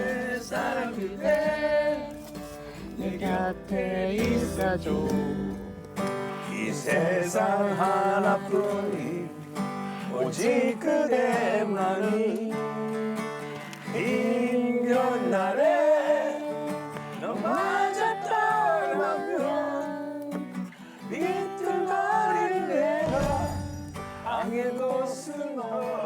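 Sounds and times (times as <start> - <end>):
acoustic guitar: 0.0 - 26.0
person singing a slow ballad: 0.0 - 26.0.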